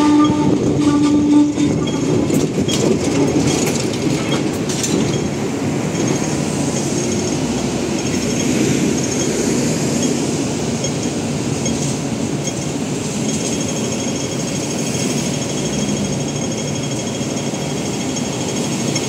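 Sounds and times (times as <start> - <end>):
tram rumbling: 0.0 - 19.0
tram wheels clicking over rail joints: 0.0 - 19.0.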